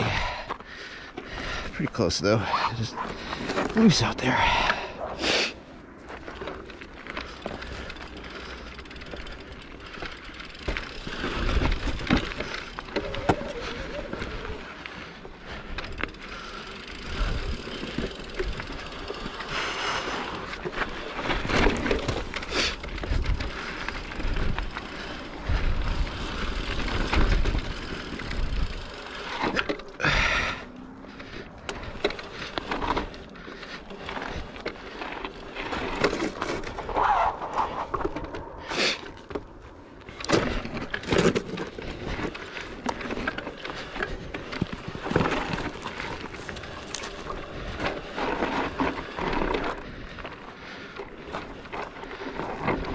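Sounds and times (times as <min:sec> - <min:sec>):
bike tyres rolling on dirt: 0:00.0 - 0:52.9
bike rattling over bumps: 0:02.8 - 0:05.0, 0:05.6 - 0:52.9.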